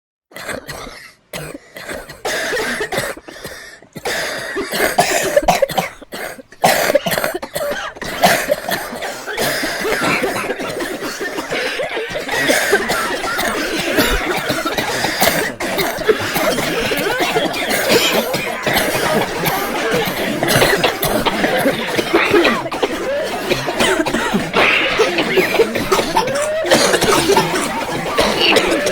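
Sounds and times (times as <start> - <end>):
people coughing: 0.3 - 28.9.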